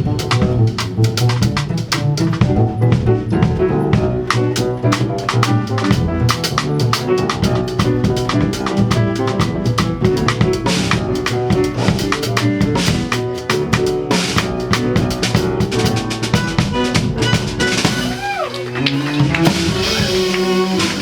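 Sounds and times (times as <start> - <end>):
jazz music with drum kit: 0.0 - 21.0.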